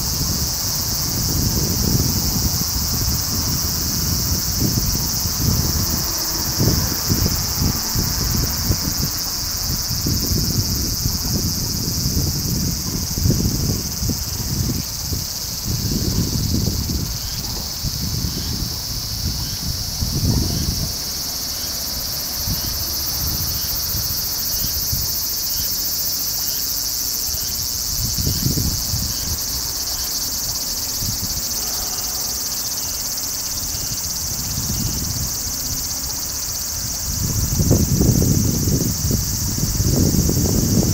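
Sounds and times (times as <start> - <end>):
insects chirping: 0.0 - 40.9
wind rumbling on microphone: 0.0 - 40.9.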